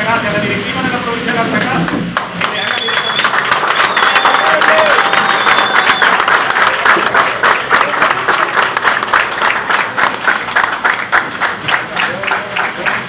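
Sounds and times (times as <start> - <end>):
audience applauding: 1.6 - 13.0.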